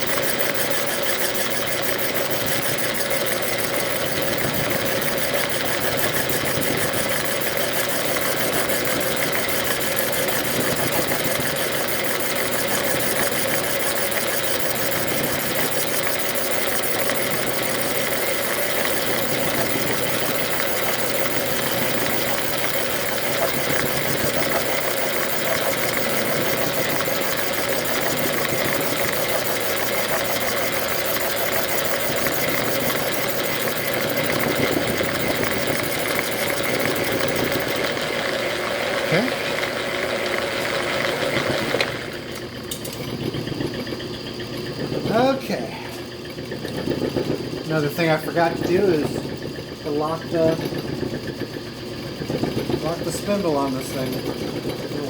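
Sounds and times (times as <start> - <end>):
metal lathe humming: 0.0 - 55.0.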